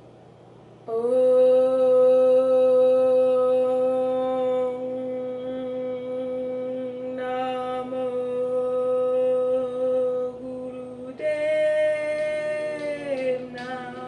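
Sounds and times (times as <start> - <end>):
woman chanting: 0.9 - 14.0.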